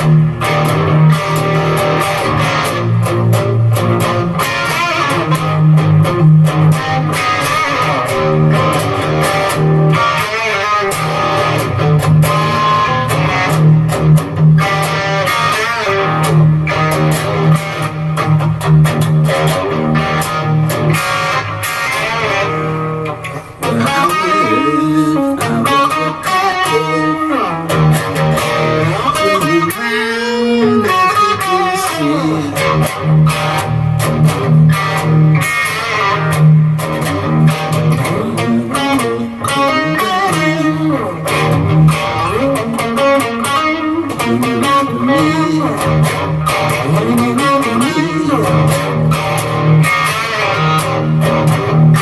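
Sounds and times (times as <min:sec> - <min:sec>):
overdriven electric guitar blues riff: 0:00.0 - 0:52.0.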